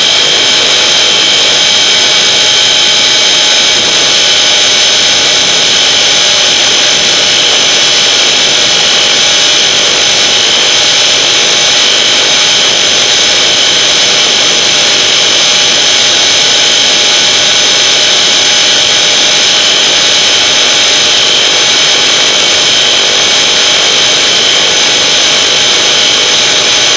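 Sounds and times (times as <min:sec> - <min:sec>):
electric motor whining: 0:00.0 - 0:26.9.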